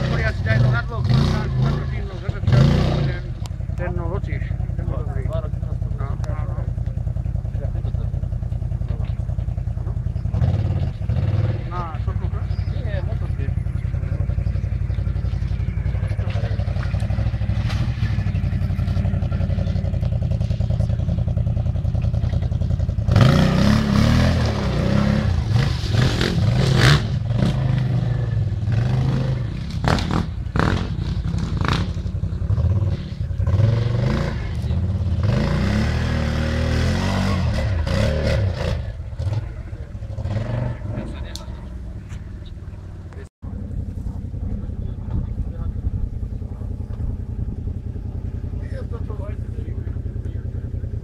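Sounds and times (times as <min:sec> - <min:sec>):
quad bike engine revving: 0:00.0 - 0:51.0.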